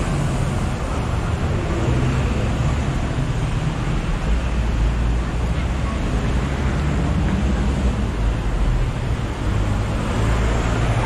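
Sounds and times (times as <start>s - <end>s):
city road traffic hum: 0.0s - 11.0s.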